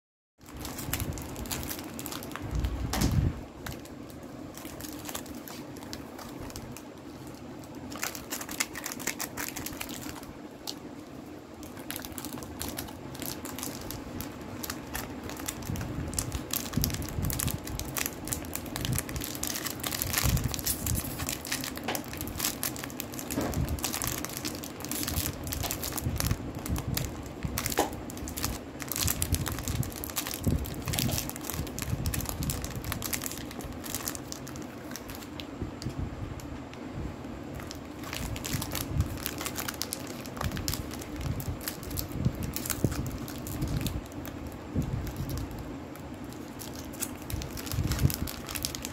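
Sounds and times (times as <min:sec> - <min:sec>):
plastic wrapper crinkling: 0:00.4 - 0:36.0, 0:37.5 - 0:48.9.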